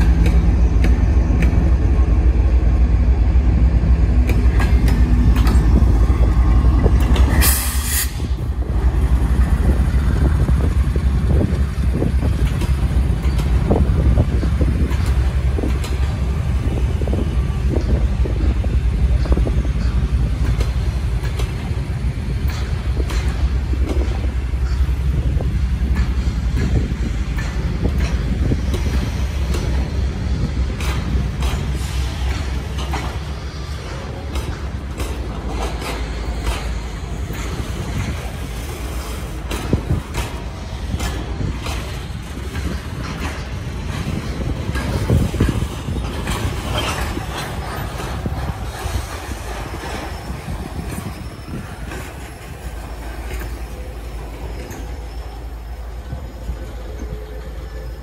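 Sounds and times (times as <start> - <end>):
diesel train rumbling: 0.0 - 58.0
wheels clacking on rails: 0.0 - 58.0.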